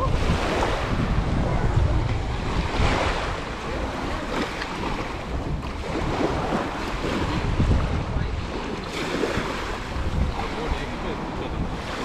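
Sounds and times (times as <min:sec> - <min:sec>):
sea waves washing onto beach: 0:00.0 - 0:12.0
wind buffeting microphone: 0:00.0 - 0:12.0.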